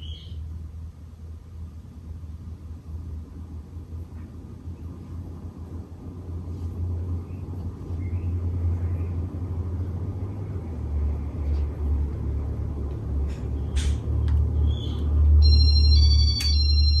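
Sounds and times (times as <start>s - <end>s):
ceiling fan rumbling: 0.0s - 17.0s.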